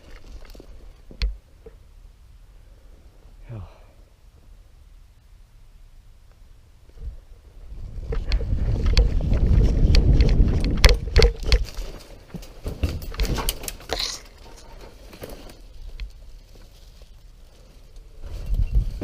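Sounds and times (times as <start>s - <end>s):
low rumble on microphone: 0.0s - 11.9s, 15.6s - 19.0s.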